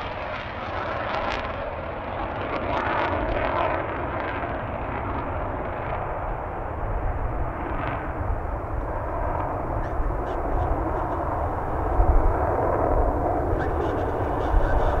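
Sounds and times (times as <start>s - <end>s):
distant jet engine roar: 0.0s - 15.0s.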